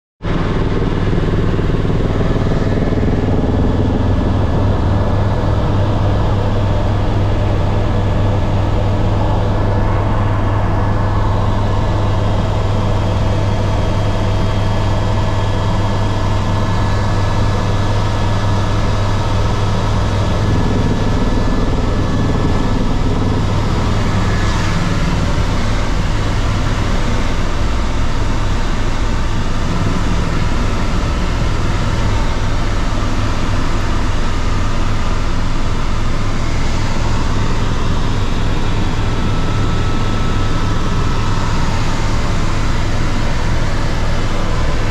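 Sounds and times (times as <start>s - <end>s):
engine drone with deep hum: 0.3s - 44.9s.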